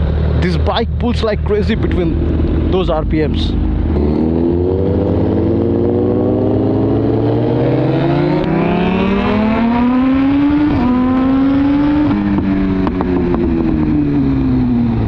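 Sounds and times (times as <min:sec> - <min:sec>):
motorcycle engine accelerating hard: 0:00.0 - 0:15.0.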